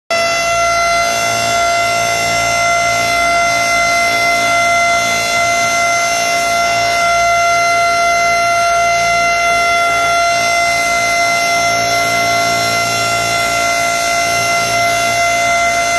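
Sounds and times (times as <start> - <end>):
warning siren steady tone: 0.1 - 15.9.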